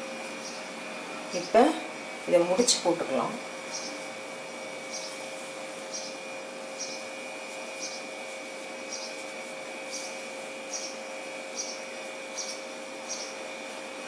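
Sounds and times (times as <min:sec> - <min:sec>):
machine hum with steady tones: 0:00.0 - 0:14.0.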